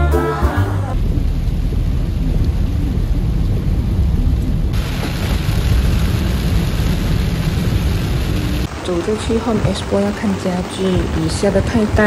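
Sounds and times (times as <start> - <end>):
heavy rain on car rumble: 1.0 - 12.0
hiss of rain and spray: 1.0 - 12.0.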